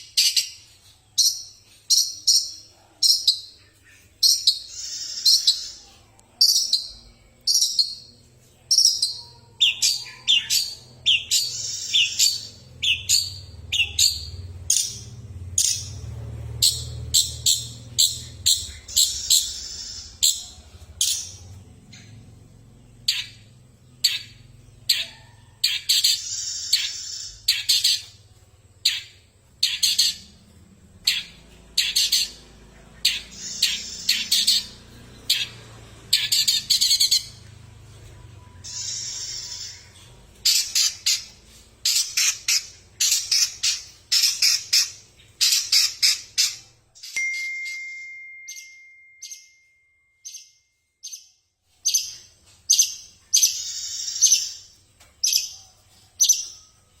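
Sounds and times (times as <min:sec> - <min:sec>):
bird harsh chattering calls: 0:00.0 - 0:16.0, 0:16.6 - 0:22.2, 0:23.1 - 0:28.2, 0:28.8 - 0:30.4, 0:31.0 - 0:37.5, 0:38.6 - 0:46.8, 0:51.9 - 0:54.7.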